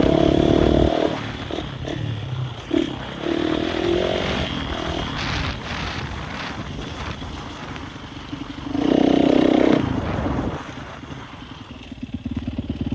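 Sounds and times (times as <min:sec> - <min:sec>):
motorbike engine revving: 0:00.0 - 0:12.9.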